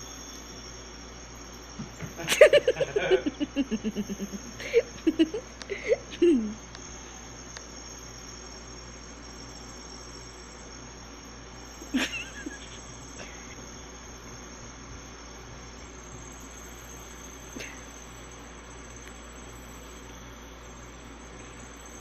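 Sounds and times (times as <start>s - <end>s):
faint high whine: 0.0s - 22.0s.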